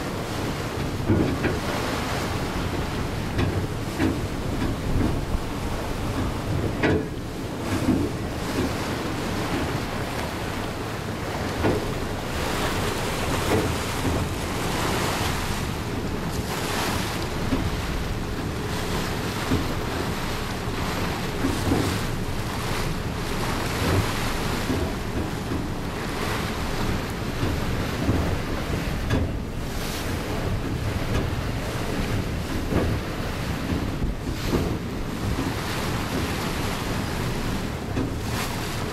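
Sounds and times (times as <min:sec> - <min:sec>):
water rushing past hull: 0:00.0 - 0:38.9
wind buffeting microphone: 0:00.0 - 0:38.9.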